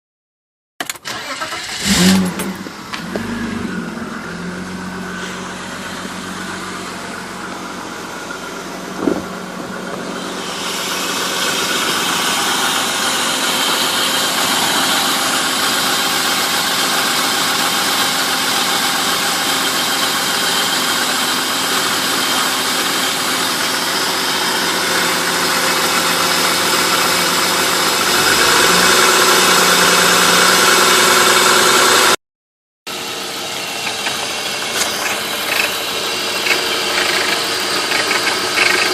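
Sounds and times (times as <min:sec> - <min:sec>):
car engine idling with rattle: 0:01.0 - 0:28.7, 0:32.9 - 0:38.9.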